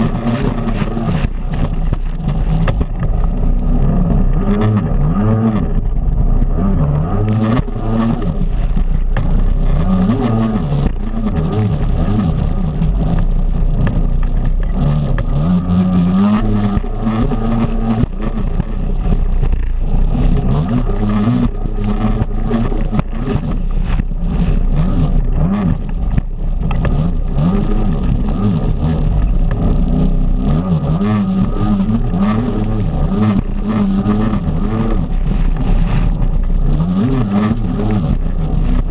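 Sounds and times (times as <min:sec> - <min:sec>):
jet ski engine racing: 0:00.0 - 0:38.9.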